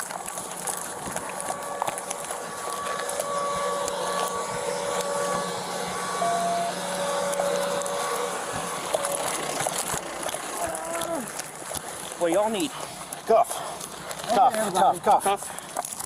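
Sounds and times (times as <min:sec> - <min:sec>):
machine hum: 0:00.0 - 0:14.5
thin whining tone: 0:00.0 - 0:16.0.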